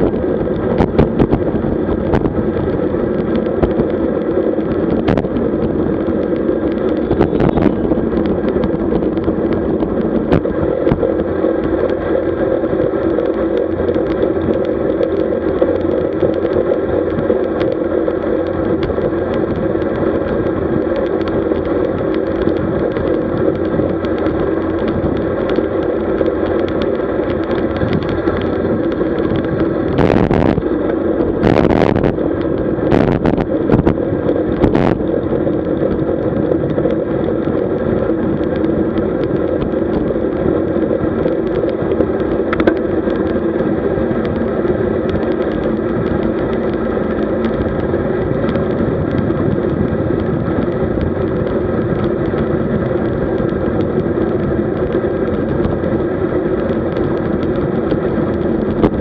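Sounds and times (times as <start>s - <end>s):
bicycle tyre noise: 0.0s - 59.0s
wind noise: 0.0s - 59.0s.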